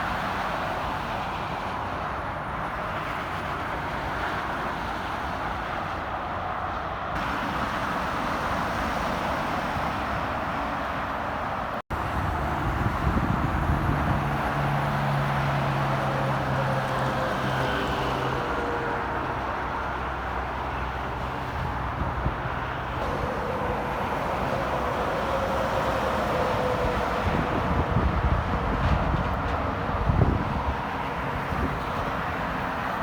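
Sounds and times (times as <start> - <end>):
heavy vehicle engine drone: 0.0 - 33.0
highway traffic passing: 0.0 - 33.0.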